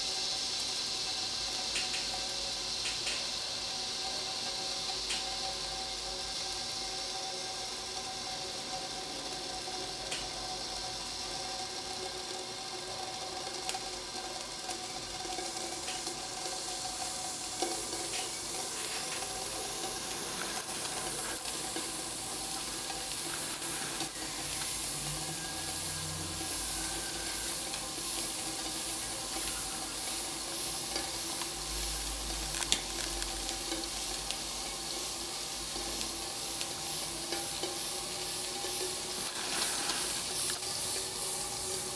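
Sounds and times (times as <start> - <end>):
steam hissing and sizzling: 0.0 - 41.9.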